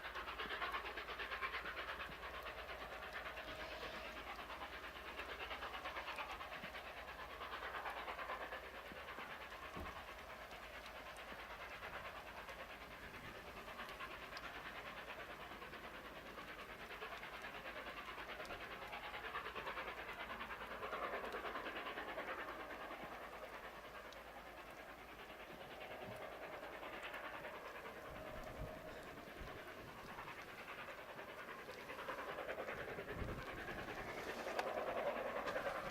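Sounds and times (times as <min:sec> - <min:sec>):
steam locomotive chuffing: 0:00.0 - 0:35.9.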